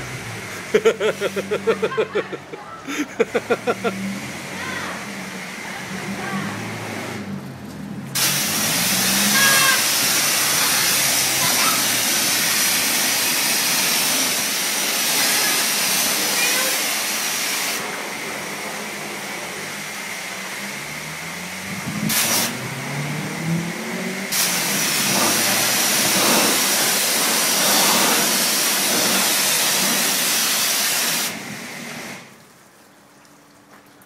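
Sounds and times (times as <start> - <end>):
pressure washer spraying car: 0.0 - 32.5.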